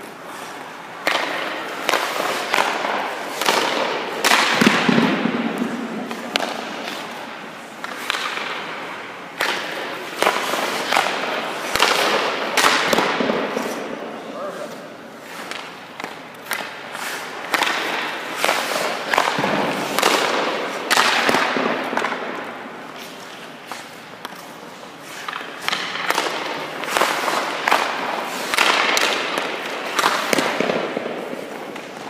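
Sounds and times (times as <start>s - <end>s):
skates scraping ice: 0.0s - 32.0s.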